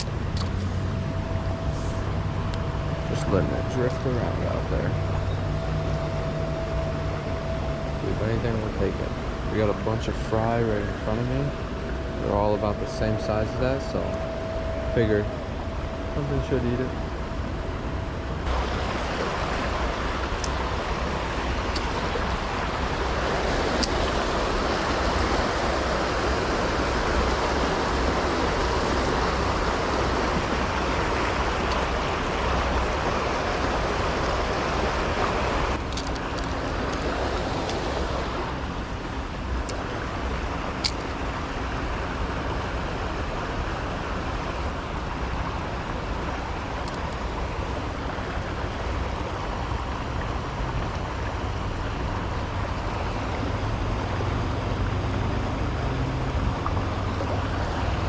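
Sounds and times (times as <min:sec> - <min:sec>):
river water rushing: 0:00.0 - 0:58.0
wind rumble on microphone: 0:00.0 - 0:58.0.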